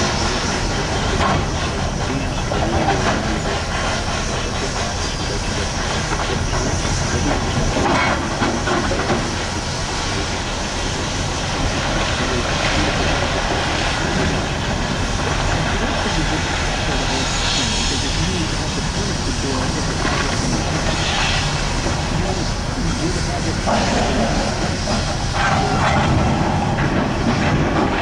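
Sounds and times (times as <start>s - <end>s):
heavy machinery rumble and hiss: 0.0s - 28.0s.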